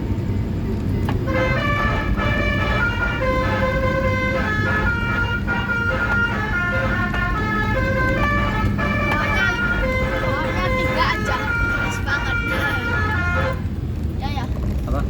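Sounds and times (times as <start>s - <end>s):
steady low rumble: 0.0s - 15.0s
multi-tone horn playing a tune: 1.2s - 13.7s.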